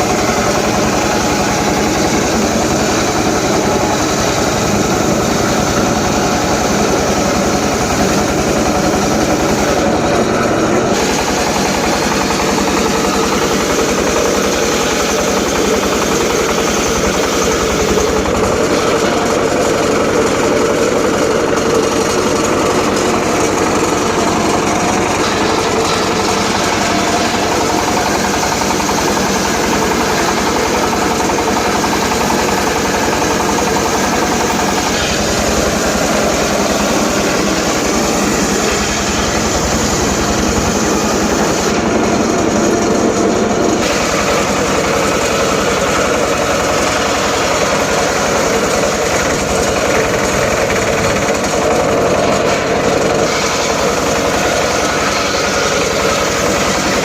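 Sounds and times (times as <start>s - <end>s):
circular saw cutting timber: 0.0s - 57.0s.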